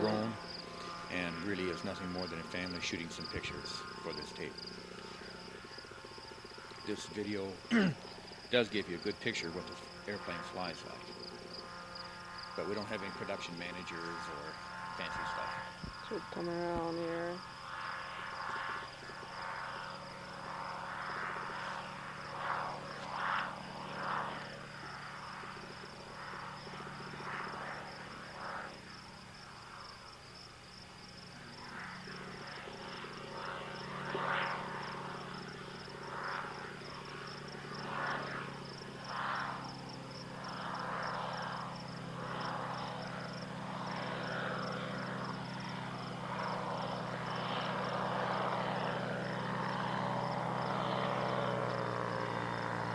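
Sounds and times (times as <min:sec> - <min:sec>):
insect chorus trilling: 0:00.0 - 0:52.9
ultralight engine drone: 0:00.0 - 0:52.9.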